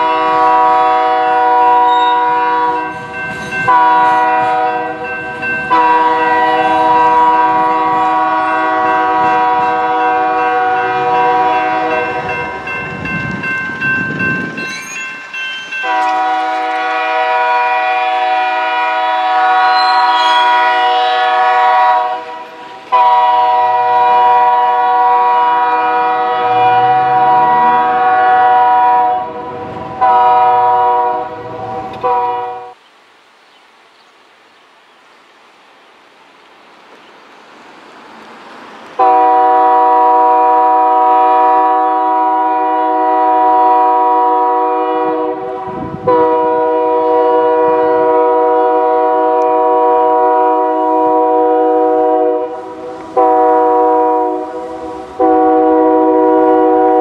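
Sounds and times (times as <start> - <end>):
locomotive air horn blasts: 0.0 - 12.5, 15.8 - 32.8, 39.0 - 57.0.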